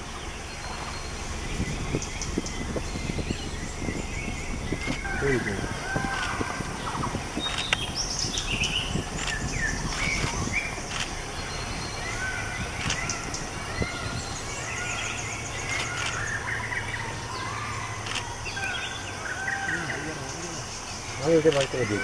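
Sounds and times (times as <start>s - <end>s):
birds chirping and whistling: 0.0s - 22.0s.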